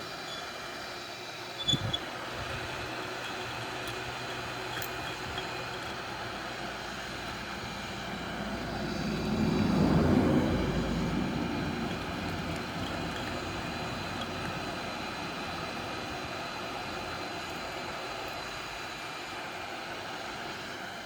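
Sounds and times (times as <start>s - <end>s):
heat gun blowing: 0.0s - 21.0s.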